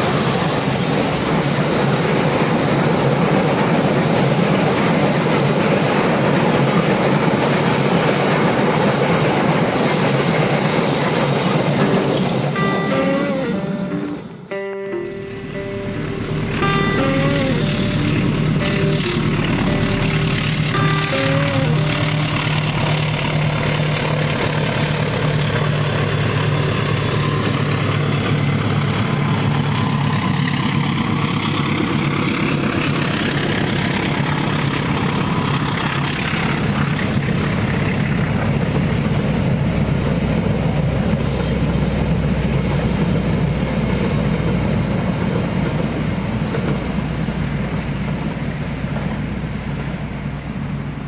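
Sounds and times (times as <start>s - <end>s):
wheels clattering over rail joints: 0.0s - 12.9s, 17.8s - 49.4s
diesel locomotive engine drone: 0.0s - 51.0s.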